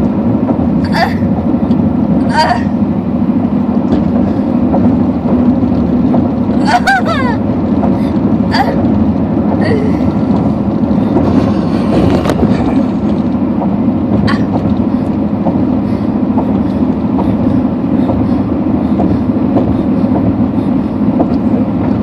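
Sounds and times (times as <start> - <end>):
car cabin engine and tyre hum: 0.0 - 22.0.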